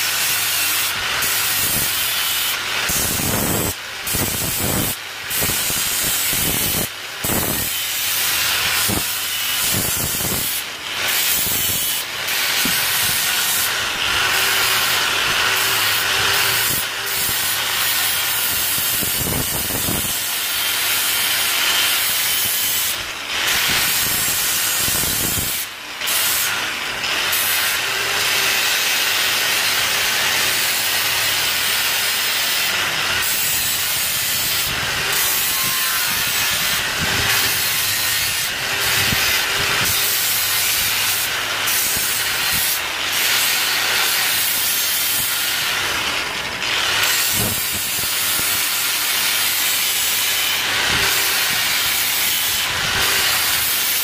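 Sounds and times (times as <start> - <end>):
angle grinder sanding metal: 0.0 - 54.0.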